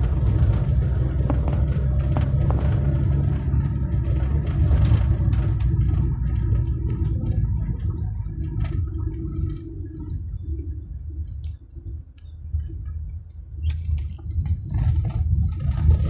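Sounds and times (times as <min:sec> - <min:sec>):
heavy engines rumbling: 0:00.0 - 0:16.0.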